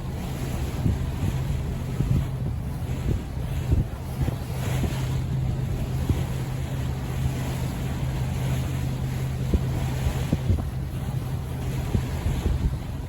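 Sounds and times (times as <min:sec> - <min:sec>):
boat engine droning: 0:00.0 - 0:13.0
water noise: 0:00.0 - 0:13.0
wind buffeting microphone: 0:00.0 - 0:13.0.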